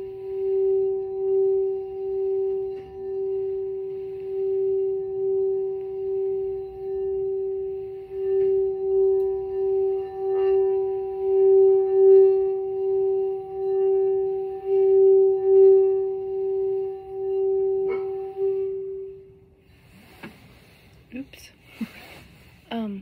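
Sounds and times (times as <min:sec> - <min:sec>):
singing bowl ringing: 0:00.0 - 0:20.2.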